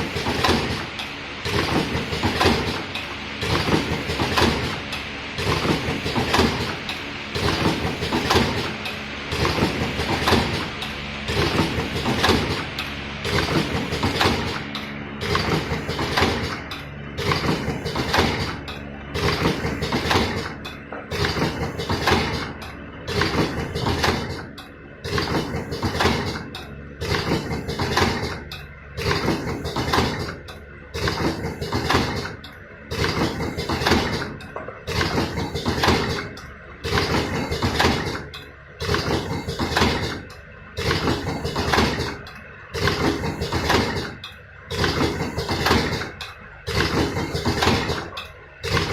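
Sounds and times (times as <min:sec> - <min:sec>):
packing machine clacking: 0:00.0 - 0:48.9.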